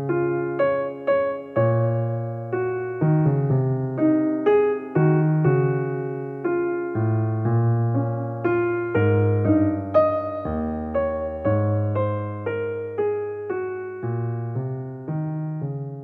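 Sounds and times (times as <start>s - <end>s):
solo piano slow melody: 0.0s - 16.0s.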